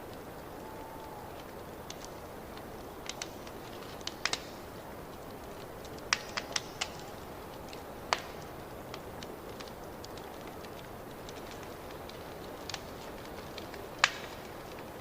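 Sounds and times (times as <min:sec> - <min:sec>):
sharp pops and snaps of fire: 0:00.0 - 0:15.0
wood fire crackling: 0:00.0 - 0:15.0.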